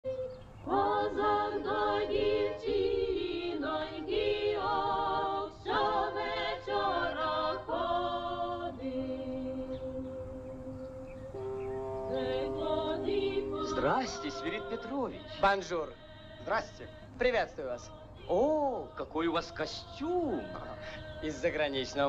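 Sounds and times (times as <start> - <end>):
choir singing unaccompanied: 0.1 - 22.0.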